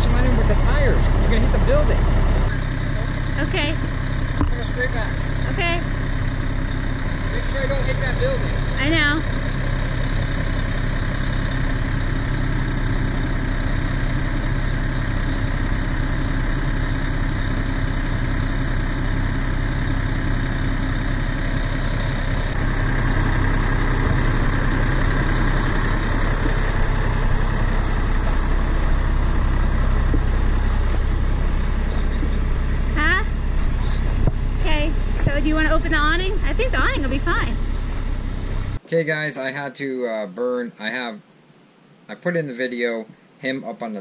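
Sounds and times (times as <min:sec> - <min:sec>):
vehicle engine idling: 0:00.0 - 0:39.6.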